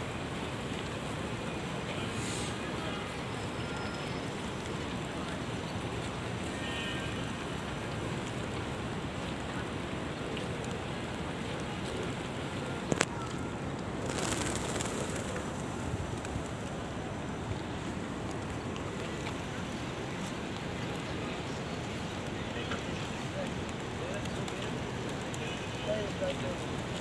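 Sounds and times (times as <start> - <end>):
open-air noise: 0.0 - 27.0.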